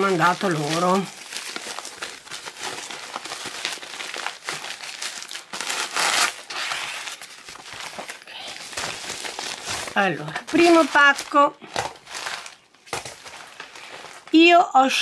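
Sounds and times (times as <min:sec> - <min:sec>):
plastic mailer bag crinkling: 0:00.0 - 0:14.5.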